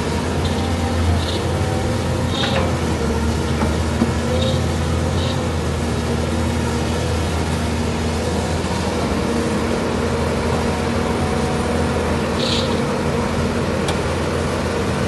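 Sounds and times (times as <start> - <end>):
heavy machinery engine humming: 0.0 - 15.0.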